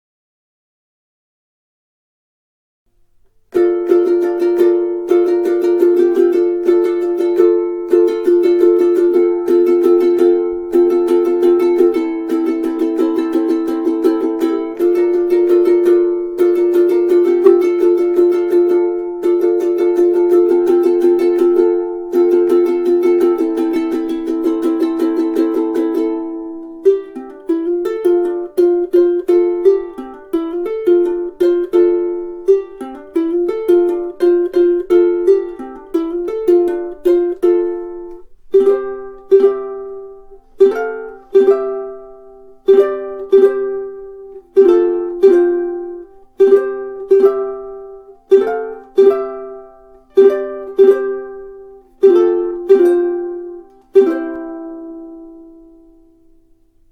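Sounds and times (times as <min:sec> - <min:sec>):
ukulele strummed and plucked: 0:03.0 - 0:56.9.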